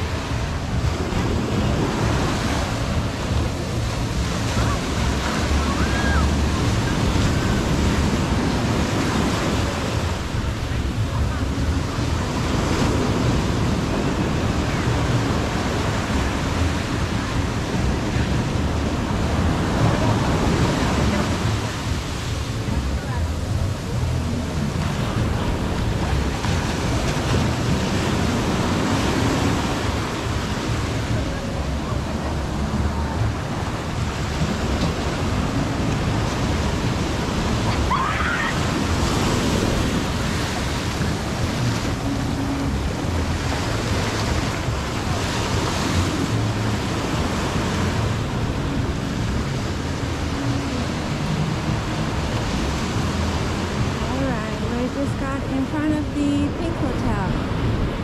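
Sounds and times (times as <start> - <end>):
ocean surf washing ashore: 0.0 - 58.0
waves breaking on beach: 0.0 - 58.0
wind buffeting microphone: 0.0 - 58.0.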